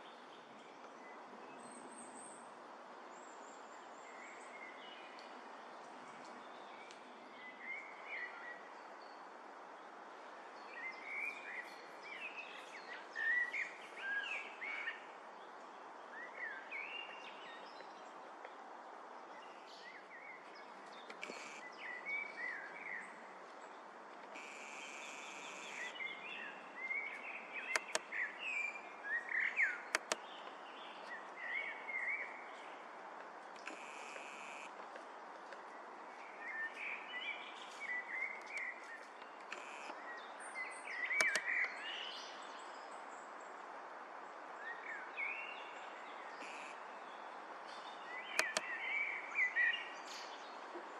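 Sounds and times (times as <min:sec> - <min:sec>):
songbirds chirping: 0:00.0 - 0:50.9
steady outdoor hiss: 0:00.0 - 0:50.9.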